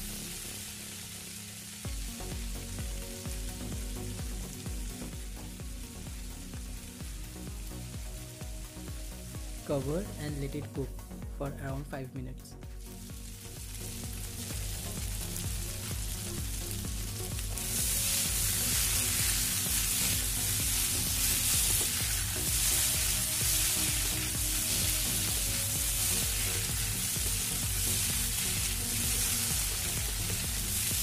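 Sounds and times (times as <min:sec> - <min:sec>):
vegetables sizzling in a frying pan: 0:00.0 - 0:10.2, 0:12.8 - 0:31.0
background music with low beat: 0:00.0 - 0:31.0.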